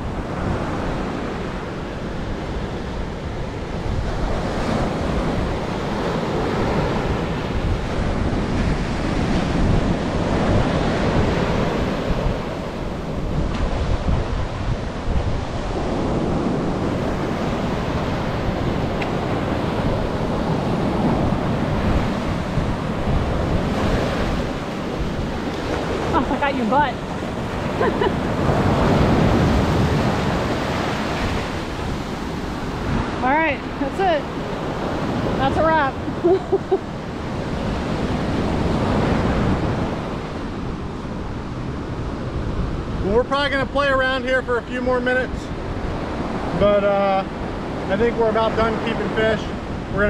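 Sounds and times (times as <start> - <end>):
wind buffeting microphone: 0.0 - 44.4, 45.2 - 50.0
ocean surf breaking: 0.0 - 50.0.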